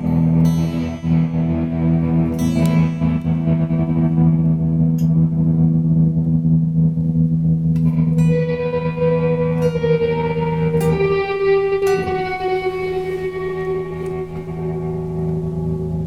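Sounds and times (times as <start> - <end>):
electric guitar chord with tremolo: 0.0 - 16.0
guitar notes plucked: 0.0 - 16.0.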